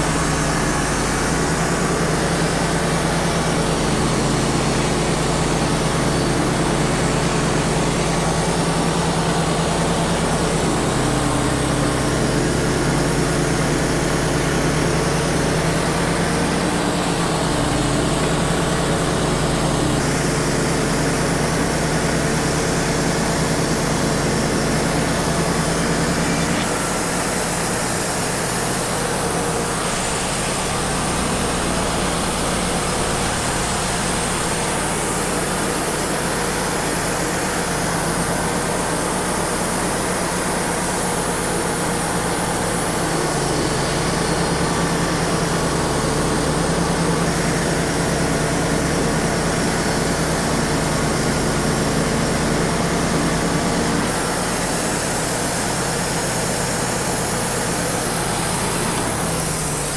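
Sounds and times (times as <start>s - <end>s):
dust collector blower: 0.0s - 59.9s
sawmill engine hum: 0.0s - 59.9s.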